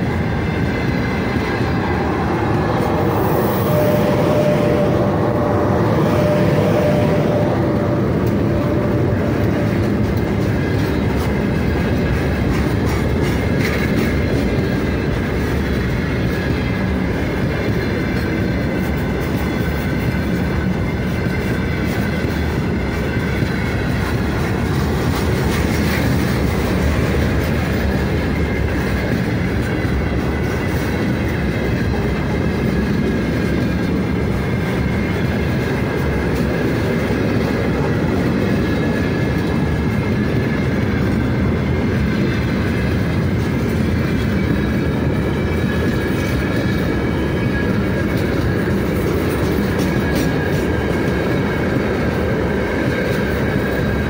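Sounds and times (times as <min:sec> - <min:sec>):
electric locomotive whine: 0:00.0 - 0:54.0
train wheels rumbling on rails: 0:00.0 - 0:54.0.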